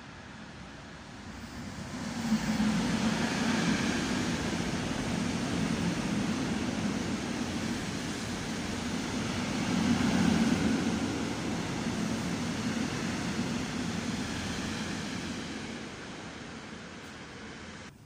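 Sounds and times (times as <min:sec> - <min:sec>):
train equipment humming: 0:00.1 - 0:18.0.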